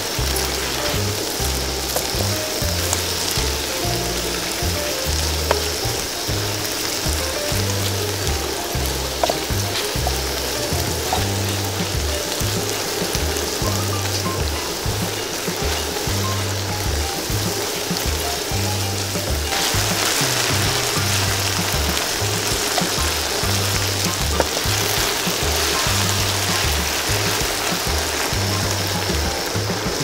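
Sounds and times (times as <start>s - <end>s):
background music with bass: 0.0s - 30.0s
oil sizzling in a wok: 0.0s - 30.0s.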